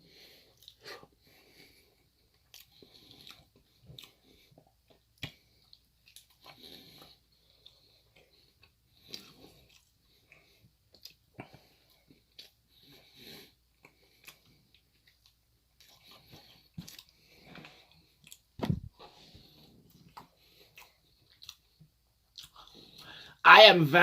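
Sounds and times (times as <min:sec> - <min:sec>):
close-up chewing: 0:00.1 - 0:23.3
soft mouth clicks and smacks: 0:00.5 - 0:00.9, 0:02.3 - 0:12.6, 0:13.8 - 0:23.1.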